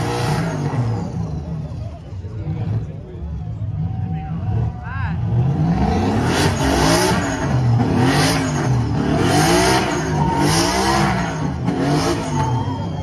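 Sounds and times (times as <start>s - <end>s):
car engine revving: 0.0s - 13.0s
tires spinning: 0.0s - 13.0s.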